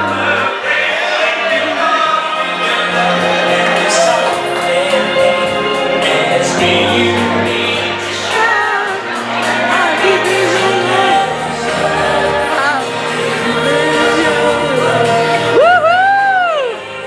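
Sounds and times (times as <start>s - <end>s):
slow pop song over loudspeakers: 0.0s - 17.0s.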